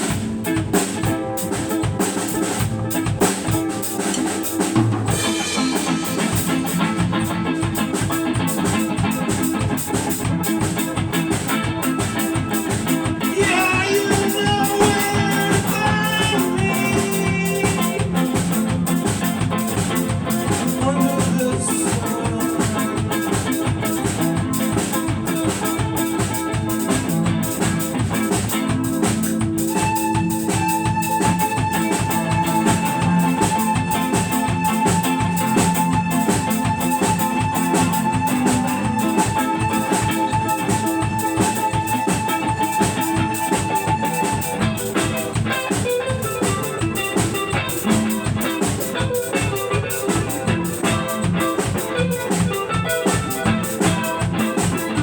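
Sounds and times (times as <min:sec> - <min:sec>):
guitar: 0:00.0 - 0:55.0
steady drum beat: 0:00.0 - 0:55.0.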